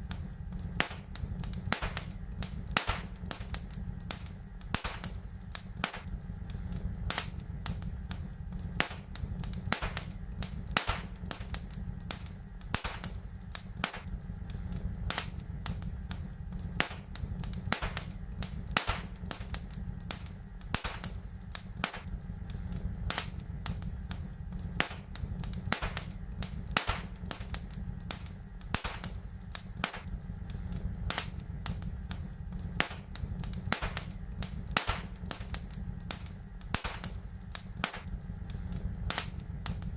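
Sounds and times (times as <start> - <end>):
fire crackling and popping: 0.0 - 39.9
low rumble: 0.0 - 39.9.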